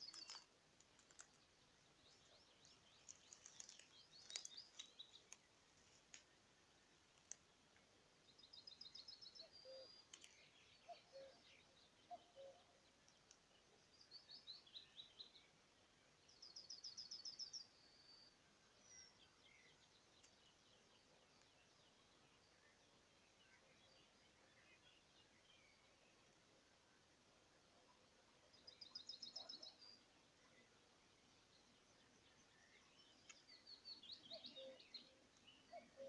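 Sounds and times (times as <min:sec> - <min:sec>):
rural background noise: 0:00.0 - 0:36.0
songbirds trilling faintly: 0:00.0 - 0:36.0.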